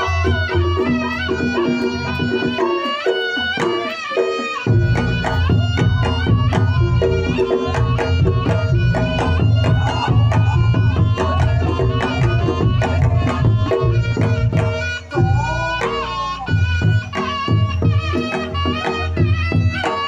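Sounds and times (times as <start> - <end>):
hand drumming: 0.0 - 20.0
shawm melody: 0.0 - 20.0.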